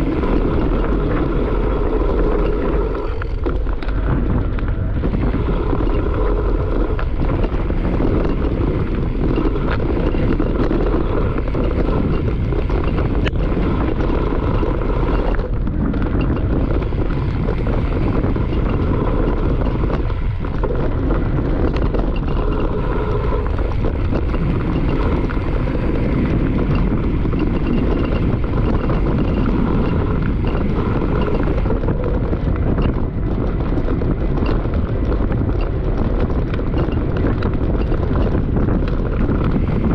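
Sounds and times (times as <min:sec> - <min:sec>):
bike rattling: 0:00.0 - 0:39.9
bike tyre roar: 0:00.0 - 0:39.9
wind rush on microphone: 0:00.0 - 0:39.9.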